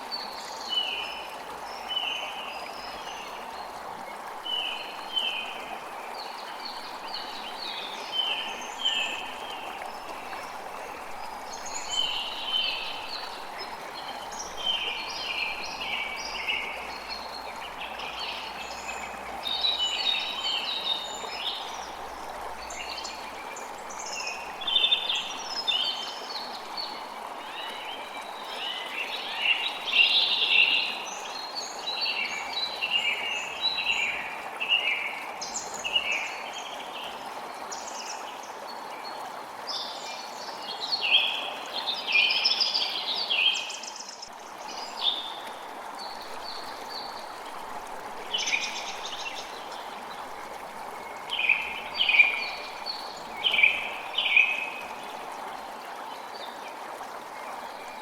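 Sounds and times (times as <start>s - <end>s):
creek flowing: 0.0s - 58.0s.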